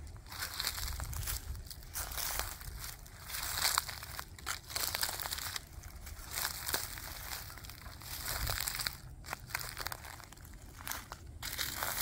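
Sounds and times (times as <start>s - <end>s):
footsteps crunching dry leaves: 0.0s - 12.0s
twigs cracking and snapping: 0.2s - 12.0s.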